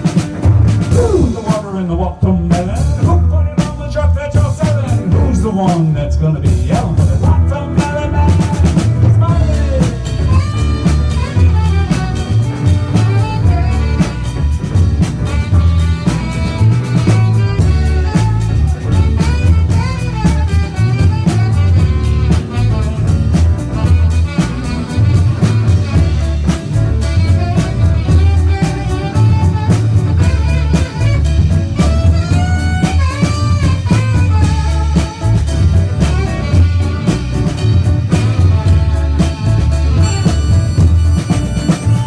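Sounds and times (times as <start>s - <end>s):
pitch-bending lead line: 0.0s - 3.8s, 4.5s - 42.0s
bass line: 0.0s - 42.0s
live band playing instrumental: 0.0s - 42.0s
steady drum beat: 0.0s - 42.0s.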